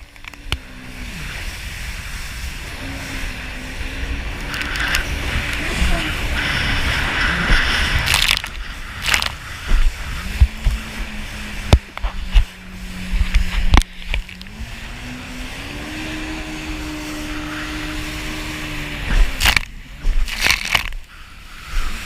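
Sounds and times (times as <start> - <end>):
jet ski engine running: 0.0 - 22.0
rush of wind or spray: 0.6 - 22.0.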